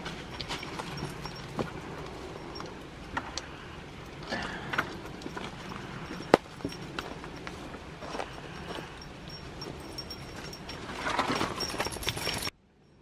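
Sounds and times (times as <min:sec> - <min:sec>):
metal chain clinking: 0:00.0 - 0:13.0.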